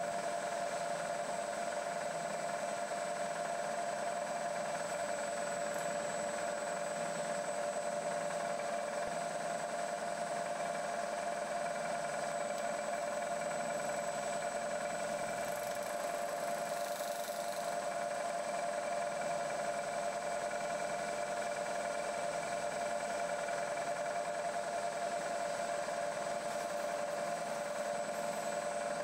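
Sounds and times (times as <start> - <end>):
milling machine humming: 4.5 - 29.0.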